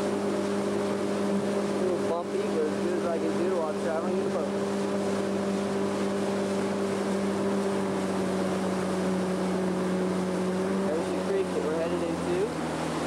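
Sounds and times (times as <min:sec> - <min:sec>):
motorboat engine humming: 0:00.0 - 0:13.0
water noise: 0:00.0 - 0:13.0
wind: 0:00.0 - 0:13.0.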